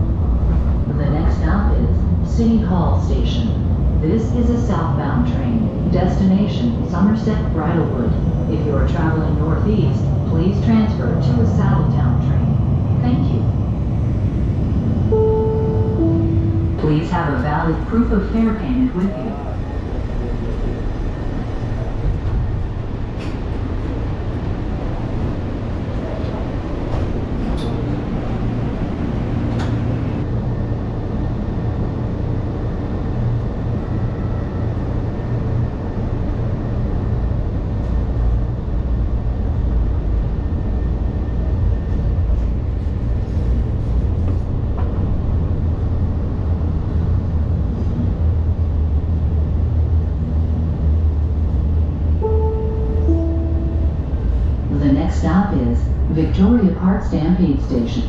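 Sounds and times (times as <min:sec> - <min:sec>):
light rail car rumbling: 0:00.0 - 0:58.0.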